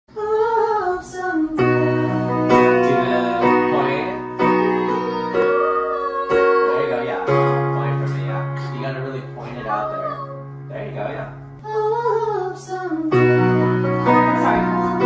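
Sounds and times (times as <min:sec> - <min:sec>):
girl singing: 0:00.1 - 0:07.5, 0:09.4 - 0:10.9, 0:11.6 - 0:15.0
keyboard chords: 0:01.6 - 0:15.0.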